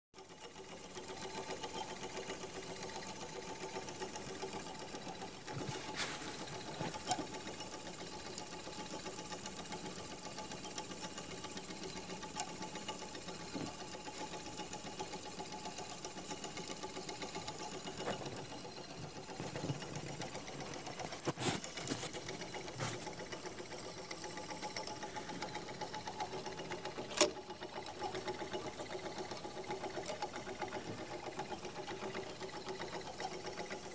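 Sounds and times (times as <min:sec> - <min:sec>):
clockwork gears whirring and clattering: 0:00.2 - 0:33.9.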